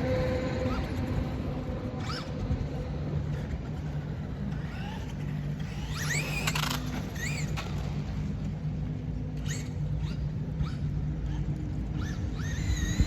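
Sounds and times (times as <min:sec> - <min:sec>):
electric model car motor whining: 0:00.0 - 0:08.1, 0:09.3 - 0:13.0
steady low hum: 0:00.0 - 0:13.0.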